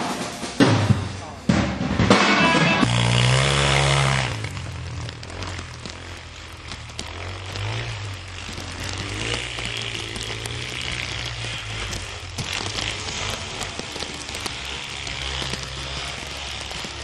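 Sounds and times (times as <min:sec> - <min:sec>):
distant atv engine running: 0:02.4 - 0:17.0
crackling clicks: 0:02.8 - 0:17.0.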